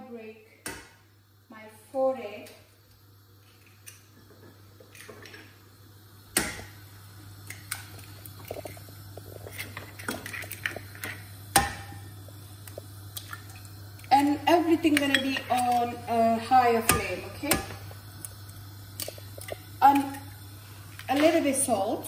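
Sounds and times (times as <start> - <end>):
egg frying in oil: 2.4 - 22.0.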